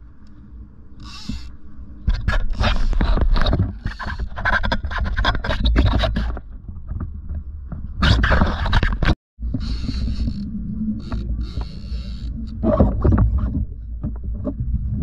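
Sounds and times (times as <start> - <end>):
scraping and clicking on kayak: 2.1 - 14.6.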